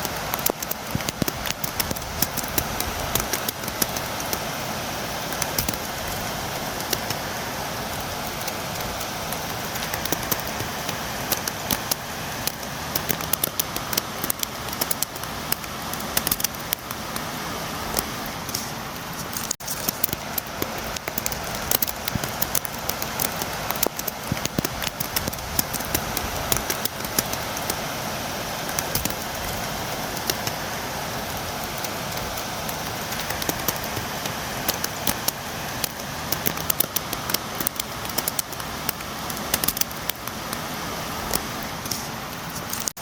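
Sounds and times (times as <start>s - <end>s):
rain drops tapping on a window: 0.0s - 43.0s.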